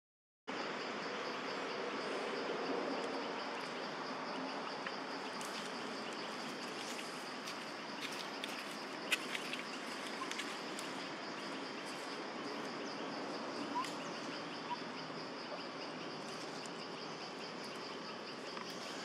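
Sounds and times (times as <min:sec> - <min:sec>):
insects trilling: 0:00.5 - 0:19.0.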